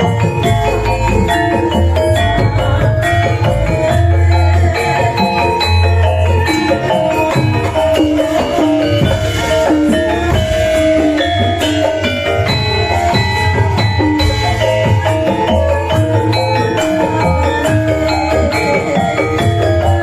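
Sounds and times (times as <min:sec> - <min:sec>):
gamelan music over loudspeakers: 0:00.0 - 0:20.0.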